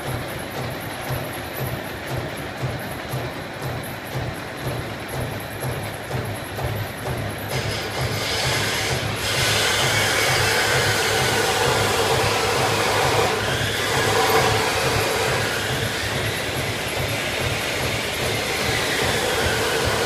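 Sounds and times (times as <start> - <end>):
punching machine clattering: 0.0 - 20.0.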